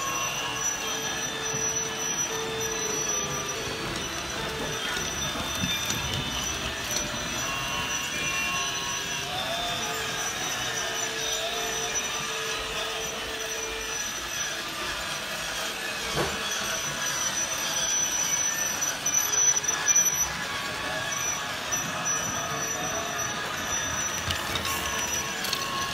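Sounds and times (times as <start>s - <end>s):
toy train motor whirring: 0.0s - 25.9s
toy train wheels clattering: 0.0s - 25.9s.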